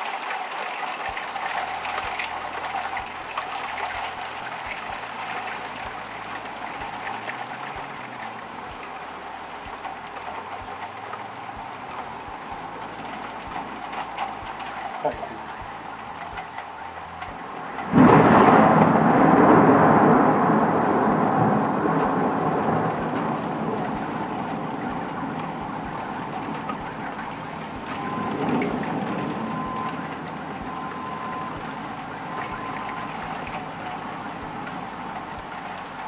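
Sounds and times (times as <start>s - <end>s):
heavy rain: 0.0s - 36.0s
thunderclap rumbling: 0.9s - 36.0s.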